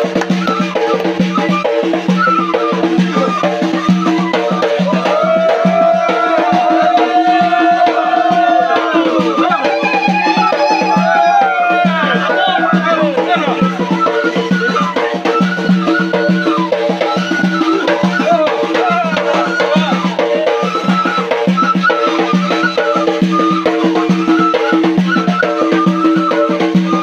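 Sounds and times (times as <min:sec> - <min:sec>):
frame drum beating: 0:00.0 - 0:21.6
reed flute melody: 0:00.0 - 0:27.0.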